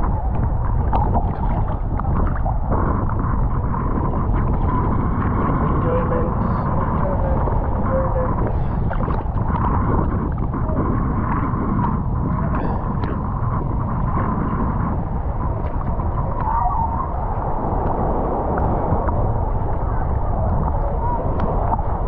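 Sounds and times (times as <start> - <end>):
low wind rumble on microphone: 0.0 - 22.0
seawater sloshing and gurgling: 0.0 - 22.0.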